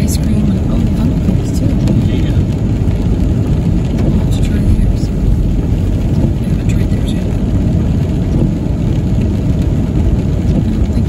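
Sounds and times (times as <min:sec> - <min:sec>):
car driving on wet street: 0:00.0 - 0:11.0.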